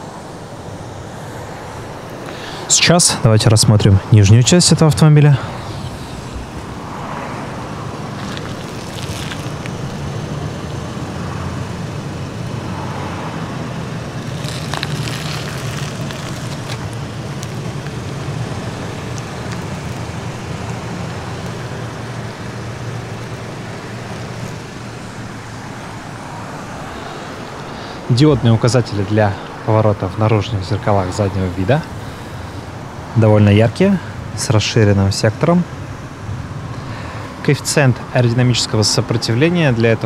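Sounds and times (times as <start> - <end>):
road traffic noise: 0.0 - 40.0
vehicle engine humming: 0.0 - 40.0.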